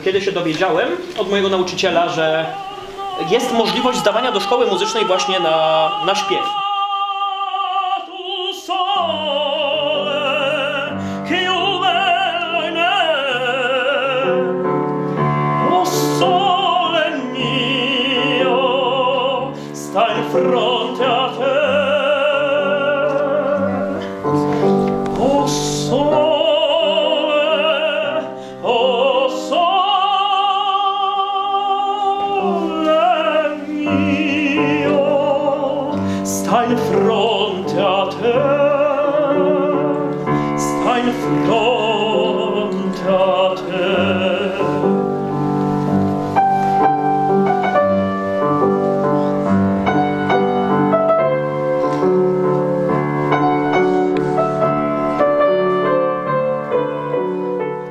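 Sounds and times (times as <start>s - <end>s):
tenor singing opera: 0.0s - 52.3s
piano accompaniment: 0.0s - 57.9s.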